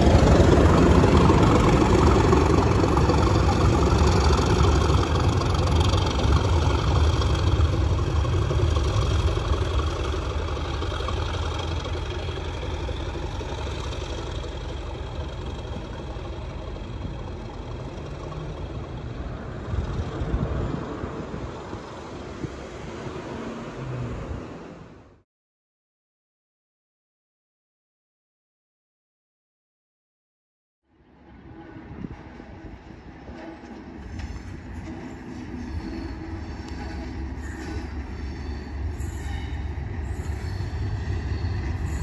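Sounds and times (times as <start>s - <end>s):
diesel locomotive engine: 0.0s - 25.2s, 30.9s - 42.0s.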